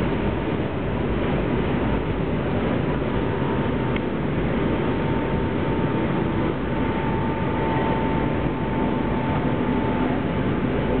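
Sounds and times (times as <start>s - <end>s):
ferry rumble and water wash: 0.0s - 11.0s
thin steady whine: 0.0s - 11.0s.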